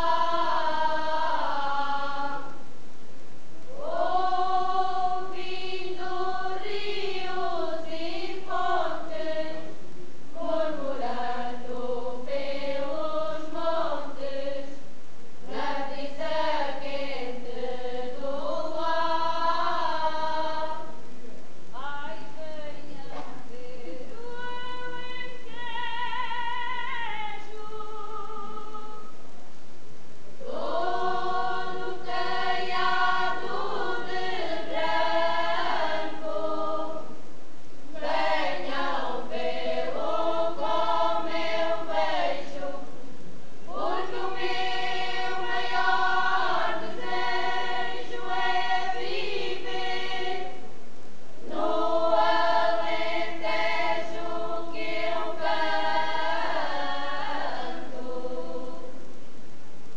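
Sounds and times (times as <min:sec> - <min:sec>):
women's choir singing unaccompanied: 0:00.0 - 0:59.4.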